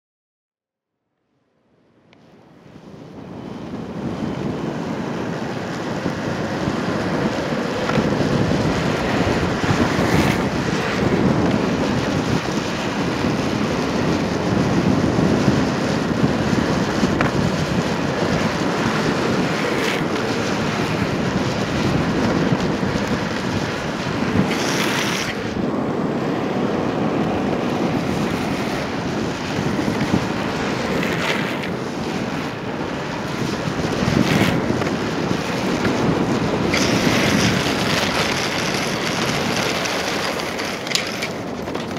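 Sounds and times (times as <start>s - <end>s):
skateboard wheels rolling on asphalt: 1.2s - 41.9s
wind buffeting microphone: 2.3s - 41.9s.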